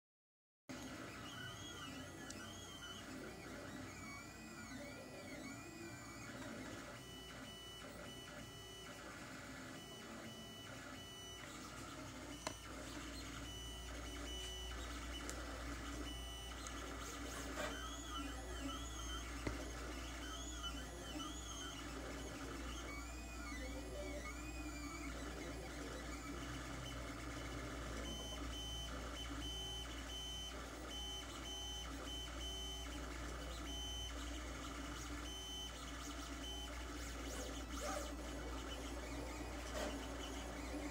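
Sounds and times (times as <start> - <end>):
printer low hum: 0.7 - 40.9
stepper motors whining: 0.8 - 40.9.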